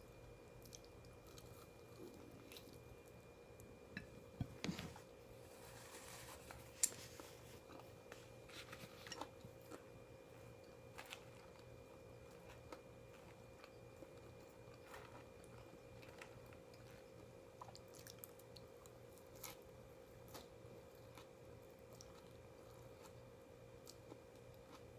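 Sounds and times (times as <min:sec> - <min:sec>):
faint steady hum: 0:00.0 - 0:24.9
person chewing food: 0:00.6 - 0:03.3, 0:06.4 - 0:24.9.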